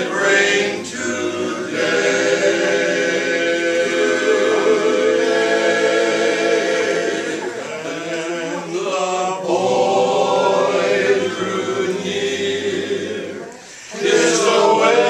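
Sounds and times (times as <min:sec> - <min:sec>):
male quartet singing a cappella: 0:00.0 - 0:15.0.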